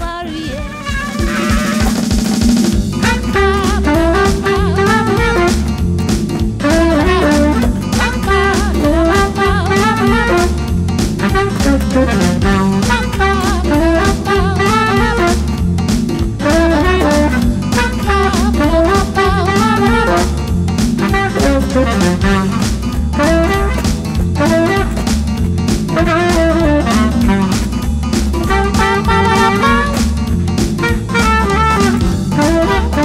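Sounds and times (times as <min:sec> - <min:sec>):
disco-pop backing with drums and bass: 0:00.0 - 0:33.0
tenor saxophone solo: 0:00.2 - 0:02.1, 0:03.0 - 0:05.9, 0:06.6 - 0:15.7, 0:16.4 - 0:25.1, 0:25.9 - 0:33.0.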